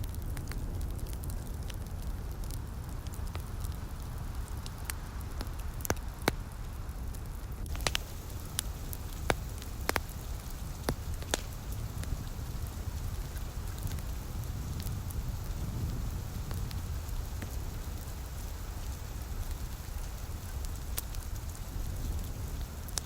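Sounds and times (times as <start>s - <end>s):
light rain hiss: 0.0s - 23.0s
wood fire crackling and popping: 0.0s - 23.0s.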